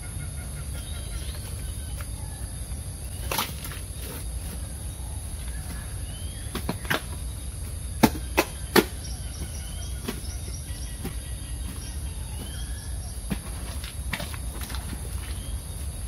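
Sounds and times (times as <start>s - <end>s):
faint bird chirps: 0.0s - 16.0s
high insect drone: 0.0s - 16.0s.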